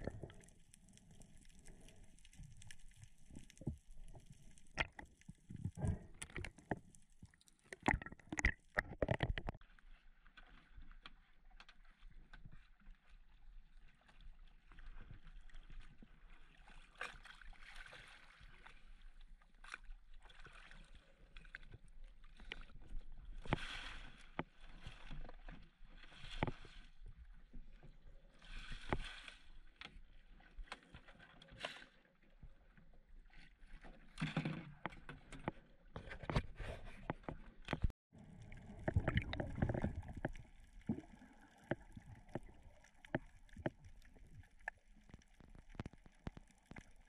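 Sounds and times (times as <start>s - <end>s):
water sloshing and splashing: 0.0s - 47.0s.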